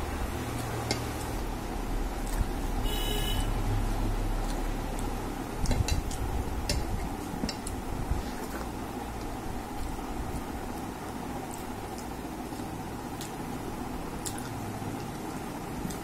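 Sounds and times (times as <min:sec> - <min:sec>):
steady low hum: 0:00.0 - 0:16.0
fingers mixing food on steel plate: 0:00.2 - 0:02.8, 0:03.8 - 0:16.0.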